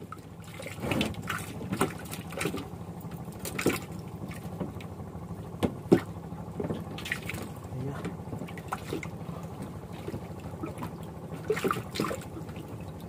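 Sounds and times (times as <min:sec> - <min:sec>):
steady low hum: 0:00.0 - 0:13.0
water lapping against boat: 0:00.0 - 0:13.0.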